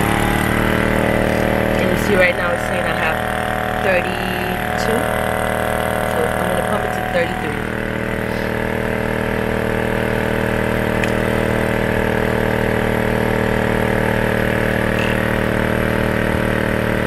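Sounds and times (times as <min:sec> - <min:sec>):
air compressor pulsing hum: 0:00.0 - 0:17.0.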